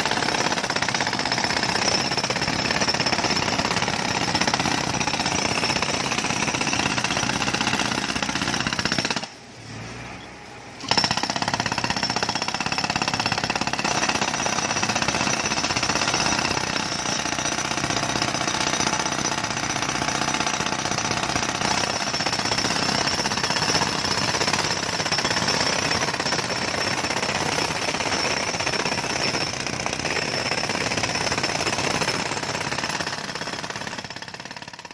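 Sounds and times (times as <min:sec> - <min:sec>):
jackhammer hammering road surface: 0:00.0 - 0:09.4, 0:10.8 - 0:34.9.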